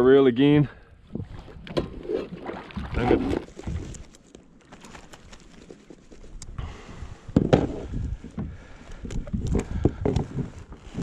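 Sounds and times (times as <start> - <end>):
faint wind and water: 0.0 - 11.0.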